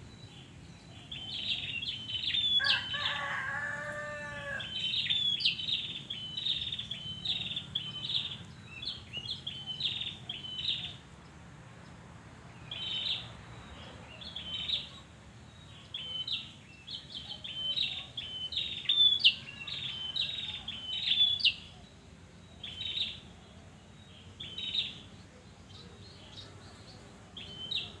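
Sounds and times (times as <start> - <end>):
songbird chirping: 0.0 - 28.0.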